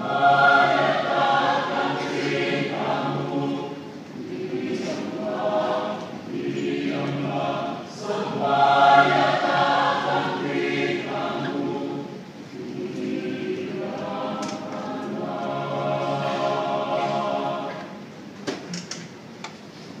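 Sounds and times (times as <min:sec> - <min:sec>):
choir singing a hymn: 0:00.0 - 0:18.3.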